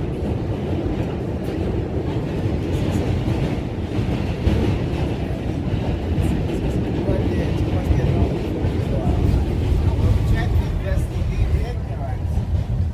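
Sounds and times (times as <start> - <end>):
subway car rumbling: 0.0 - 12.9.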